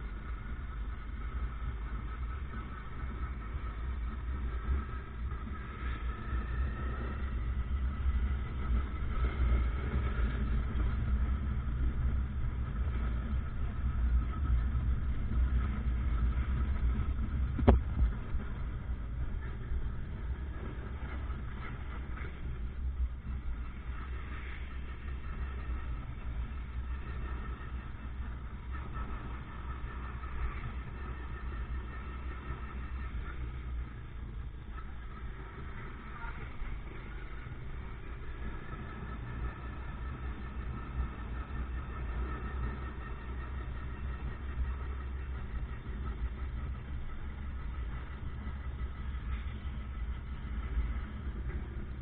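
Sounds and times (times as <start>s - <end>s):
motorcycle engine rumble: 0.0s - 52.0s
street traffic: 0.0s - 52.0s.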